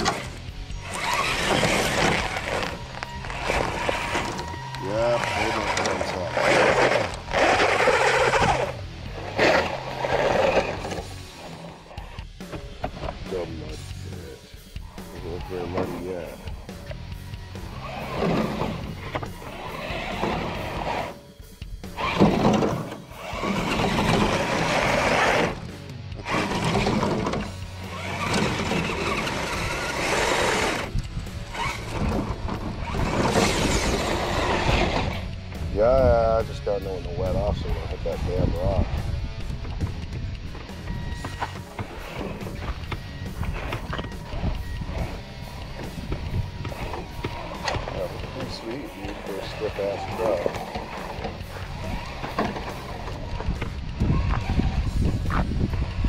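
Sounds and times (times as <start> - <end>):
toy truck tyres grinding on rock: 0.0 - 14.1, 16.9 - 21.3, 21.9 - 56.0
background music: 0.0 - 56.0
electric motor whining: 0.0 - 56.0.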